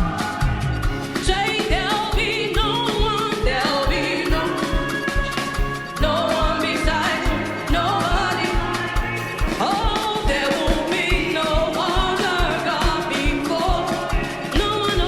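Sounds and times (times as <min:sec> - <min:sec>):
gospel singing over a band: 0:00.0 - 0:15.0
quick kick drum beat: 0:00.0 - 0:15.0.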